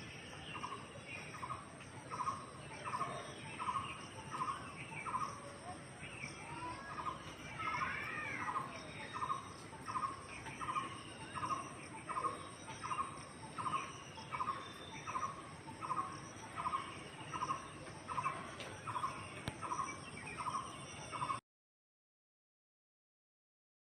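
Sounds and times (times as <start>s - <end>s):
faint bird chirps: 0.0s - 21.4s.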